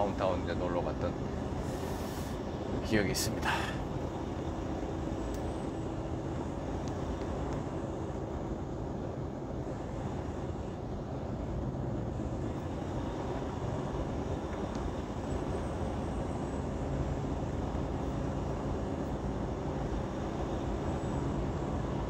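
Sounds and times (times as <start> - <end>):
road noise: 0.0 - 22.0
truck engine hum: 0.0 - 22.0.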